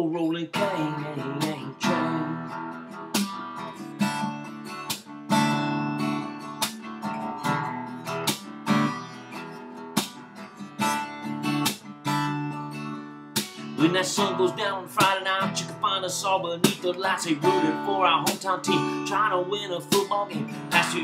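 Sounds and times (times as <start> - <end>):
acoustic guitar strummed: 0.0 - 21.0.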